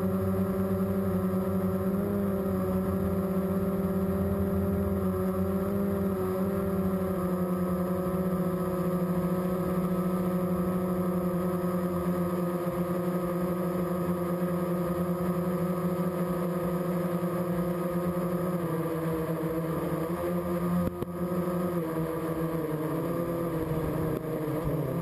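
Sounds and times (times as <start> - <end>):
electric motors and propellers humming: 0.0 - 25.0.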